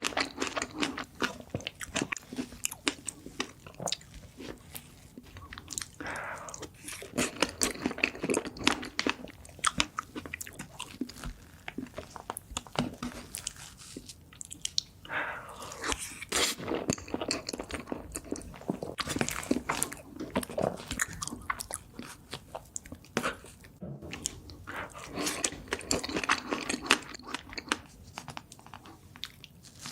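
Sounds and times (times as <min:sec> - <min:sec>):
biting and chewing cake: 0:00.0 - 0:29.9.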